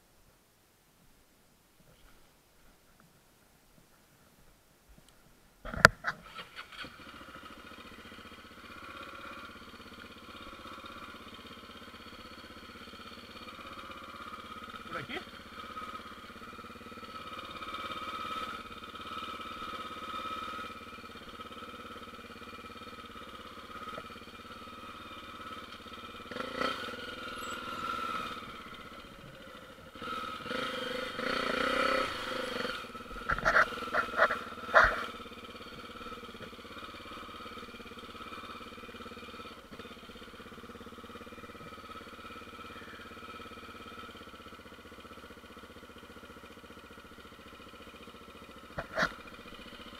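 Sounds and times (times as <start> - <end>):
motorcycle engine running: 5.6 - 49.9.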